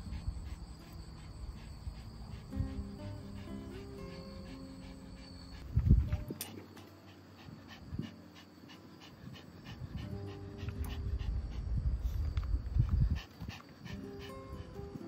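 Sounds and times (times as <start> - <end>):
dog panting: 0.0 - 15.0
faint background music: 0.0 - 15.0.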